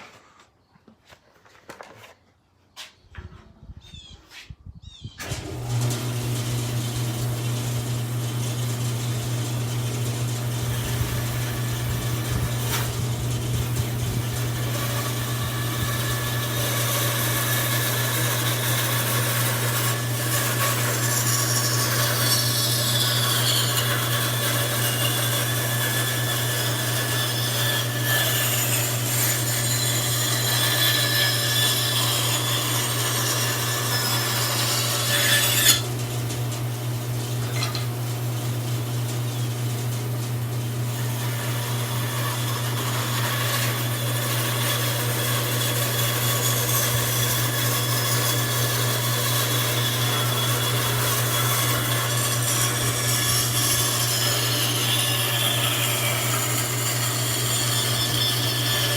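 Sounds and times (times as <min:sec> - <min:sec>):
bandsaw cutting wood: 0:05.2 - 0:58.9.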